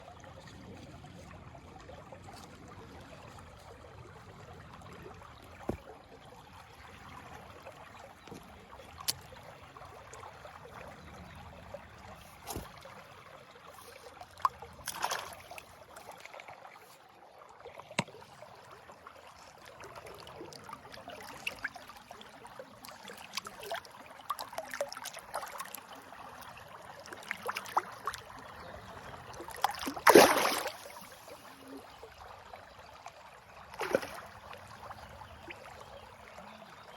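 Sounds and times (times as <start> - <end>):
river water running: 0.0 - 36.9.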